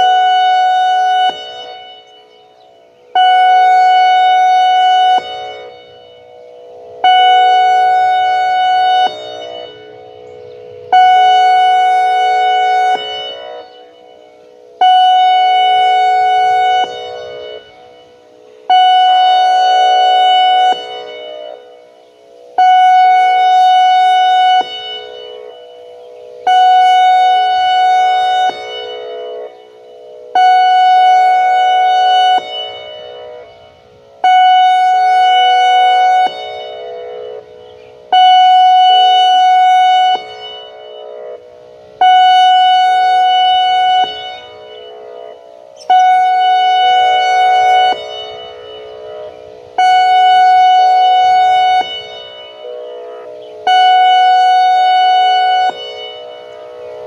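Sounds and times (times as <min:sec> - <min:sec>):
siren blasts: 0:00.0 - 0:02.2, 0:03.1 - 0:57.0
faint low siren tone: 0:00.0 - 0:57.0.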